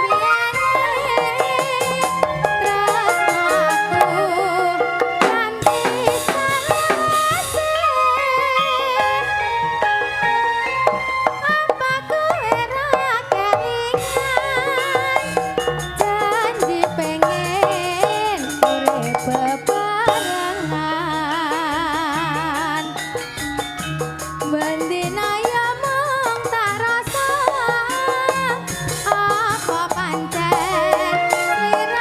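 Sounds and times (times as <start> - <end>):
wavering lead melody: 0.0 - 32.0
fast dense drumming: 0.2 - 8.4, 10.8 - 32.0.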